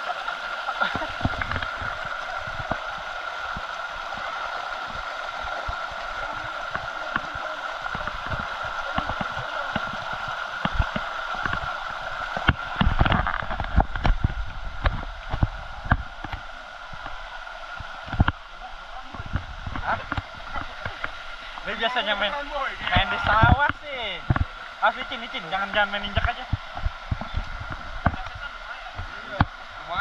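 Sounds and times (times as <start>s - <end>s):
waterfall and stream rushing: 0.0s - 30.0s.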